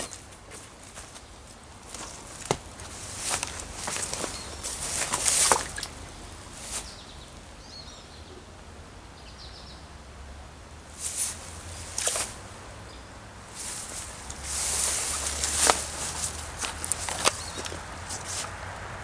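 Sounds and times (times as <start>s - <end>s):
footsteps in woods: 0.0s - 7.5s, 10.9s - 19.0s.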